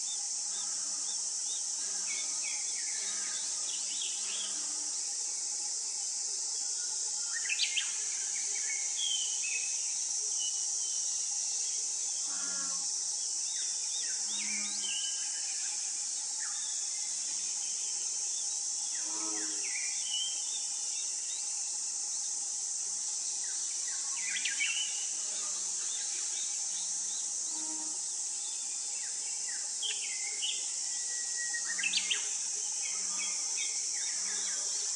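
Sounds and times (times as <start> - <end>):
high-pitched insect drone: 0.0 - 34.9.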